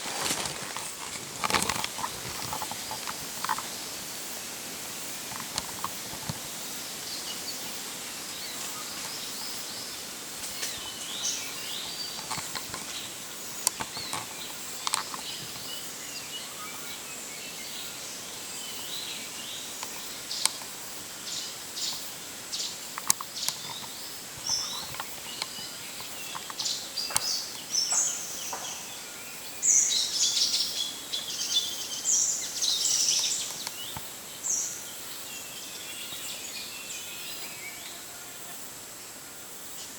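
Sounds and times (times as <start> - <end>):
birds chirping: 0.0 - 38.1
steady high hiss: 0.0 - 39.9.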